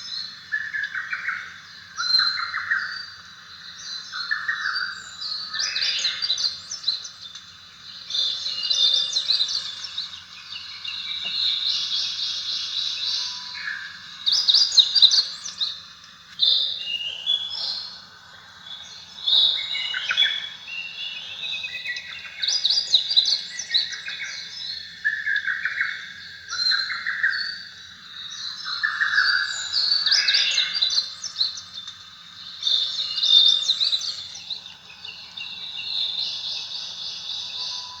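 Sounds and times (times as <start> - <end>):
birds chirping and trilling: 0.0 - 38.0.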